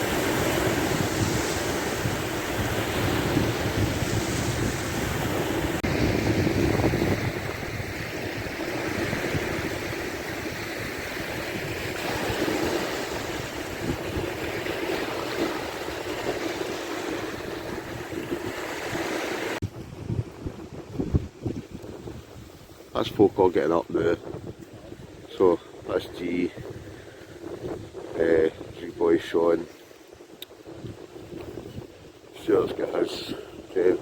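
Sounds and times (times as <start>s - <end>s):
surf washing on beach: 0.0s - 34.0s
wind buffeting microphone: 0.0s - 34.0s.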